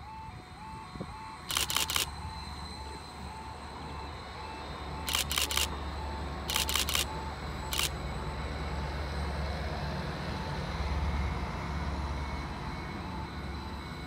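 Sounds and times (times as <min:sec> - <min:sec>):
train running past rumbling: 0:00.0 - 0:14.0.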